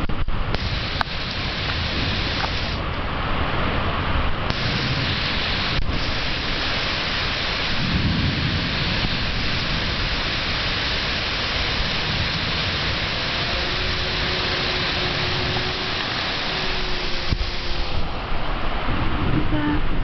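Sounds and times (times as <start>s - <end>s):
heavy rain: 0.0s - 20.0s
low rumble of thunder: 0.0s - 20.0s.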